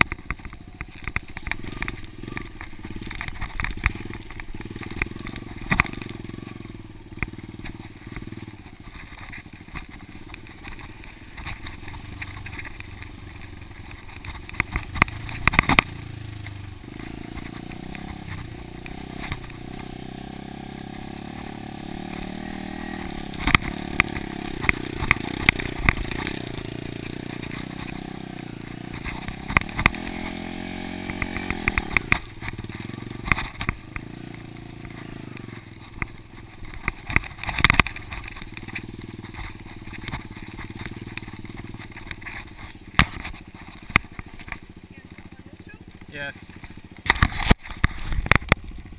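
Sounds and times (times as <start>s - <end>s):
sharp knocks and clatters: 0.0s - 20.1s, 20.8s - 45.3s, 45.9s - 48.9s
dirt bike engine revving: 0.0s - 48.9s.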